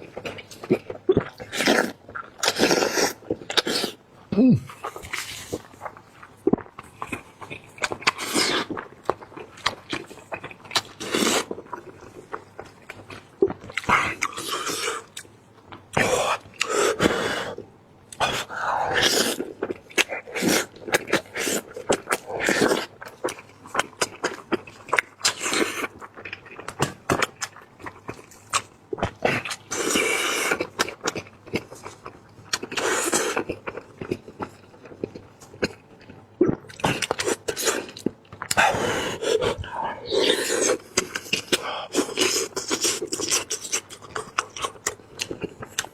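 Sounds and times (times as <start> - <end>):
person chewing and sucking meat: 0.0 - 4.0, 4.6 - 15.3, 15.9 - 45.9.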